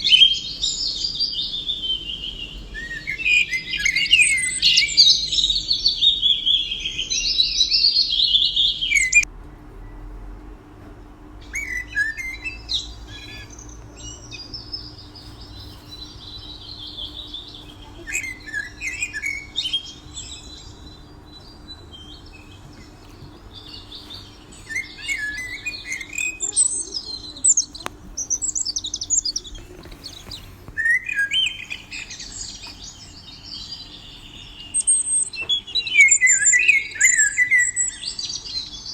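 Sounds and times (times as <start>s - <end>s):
small songbirds chirping: 0.0s - 10.0s, 11.2s - 38.9s.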